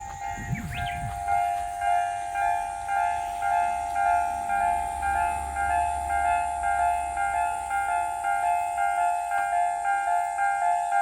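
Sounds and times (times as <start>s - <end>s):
level crossing alarm bell: 0.0s - 11.0s.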